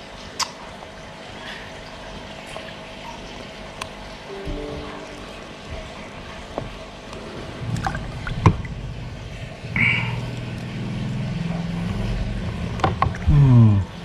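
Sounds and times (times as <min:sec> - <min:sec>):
low steady hum: 0:00.8 - 0:14.0.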